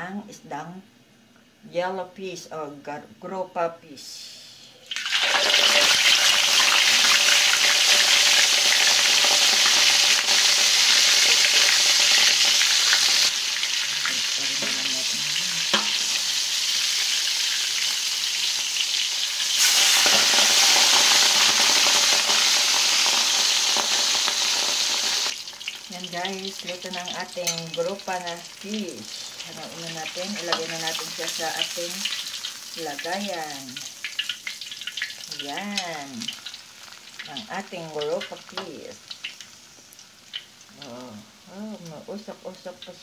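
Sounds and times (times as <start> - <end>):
fish sizzling in hot oil: 4.9 - 43.0.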